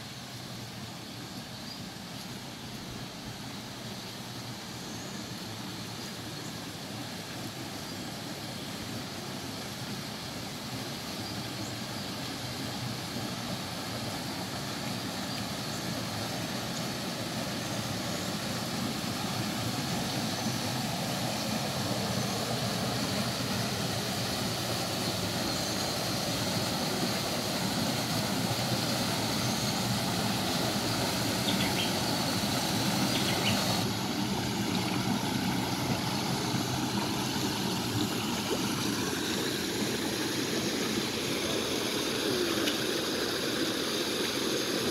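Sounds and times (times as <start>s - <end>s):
waterfall spilling over rocks: 5.4s - 44.9s.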